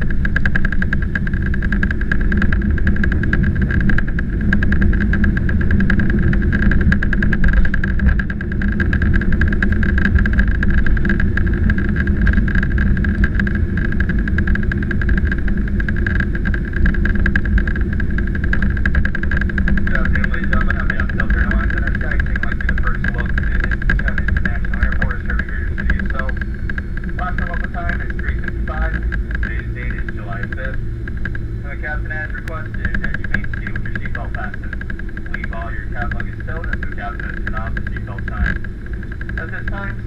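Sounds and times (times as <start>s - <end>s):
jet engines whining and rumbling: 0.0s - 40.0s.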